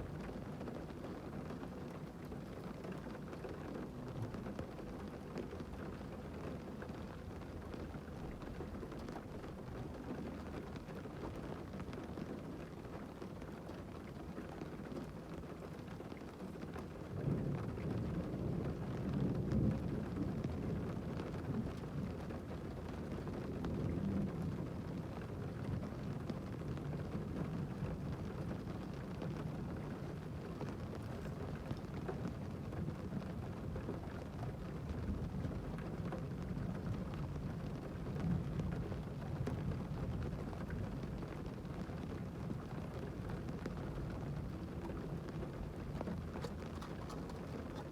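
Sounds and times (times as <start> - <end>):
rain drumming on car roof: 0.0 - 47.9.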